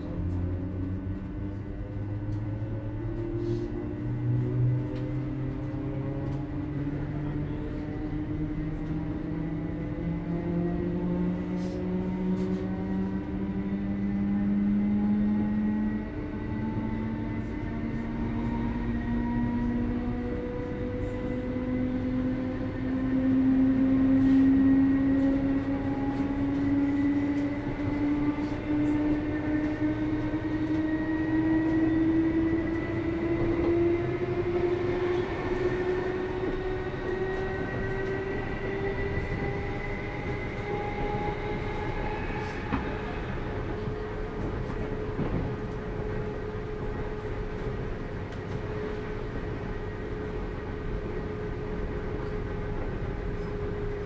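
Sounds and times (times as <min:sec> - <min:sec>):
train wheel rumble: 0:00.0 - 0:54.0.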